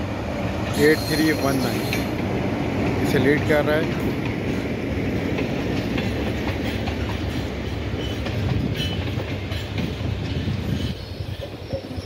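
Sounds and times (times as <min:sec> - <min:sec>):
train coaches rumbling past: 0:00.0 - 0:12.0
wheels clicking over rail joints: 0:00.7 - 0:12.0.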